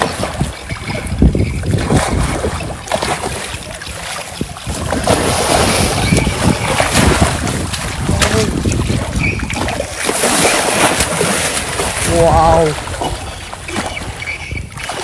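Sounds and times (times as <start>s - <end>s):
fish thrashing and splashing water: 0.0s - 15.0s
wind buffeting microphone: 0.0s - 15.0s.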